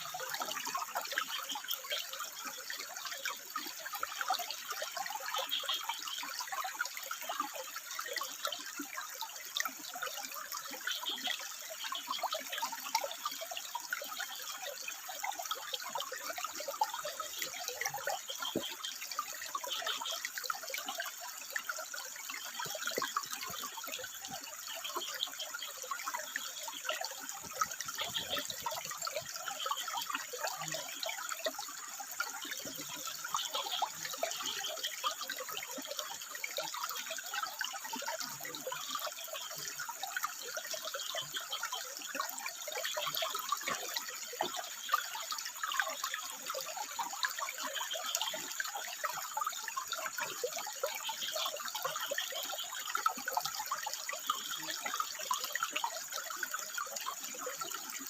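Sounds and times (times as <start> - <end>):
water trickling over rocks: 0.0 - 58.0.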